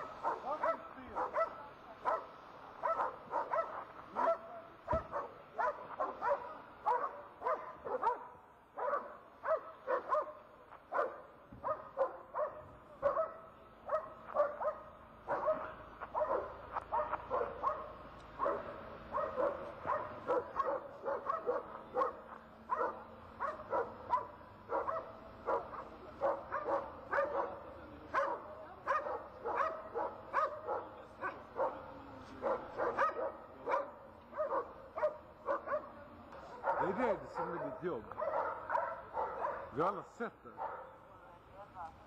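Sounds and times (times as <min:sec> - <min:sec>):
dog barking: 0:00.0 - 0:39.8, 0:40.6 - 0:41.0.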